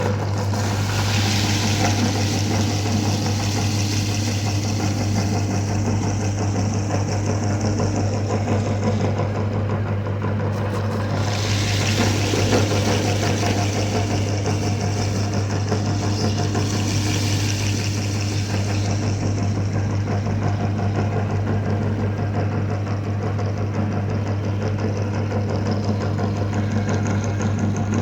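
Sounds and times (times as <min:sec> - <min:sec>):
electric meat grinder running: 0:00.0 - 0:22.8.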